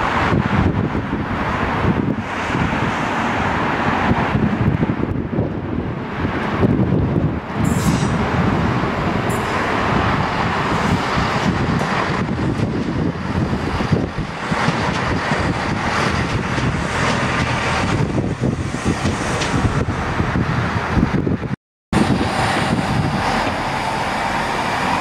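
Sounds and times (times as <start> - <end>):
diesel train rumbling past: 0.0 - 25.0.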